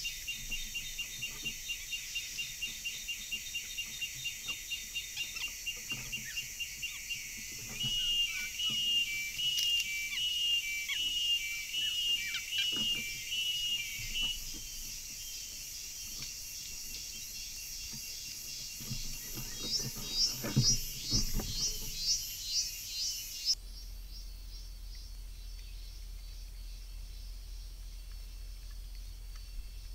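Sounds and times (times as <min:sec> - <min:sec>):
bird chirping: 0:00.0 - 0:29.9.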